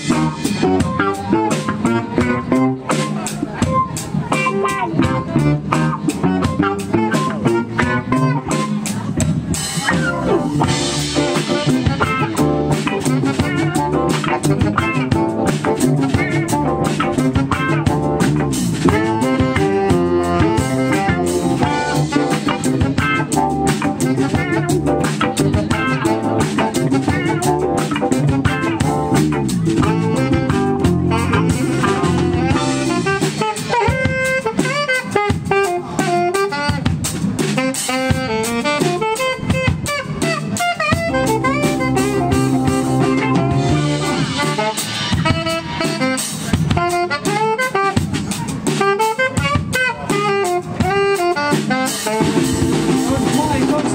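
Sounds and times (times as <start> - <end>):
drum kit beat: 0.0 - 53.9
live band playing jazzy music: 0.0 - 53.9
saxophone: 0.0 - 53.9.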